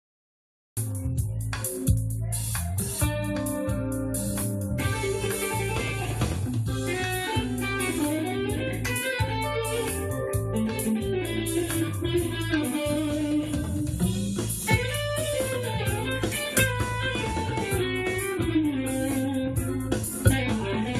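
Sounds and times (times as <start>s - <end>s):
bass: 0.8s - 20.9s
drums: 0.8s - 20.9s
overdriven electric guitar lead: 1.6s - 20.9s.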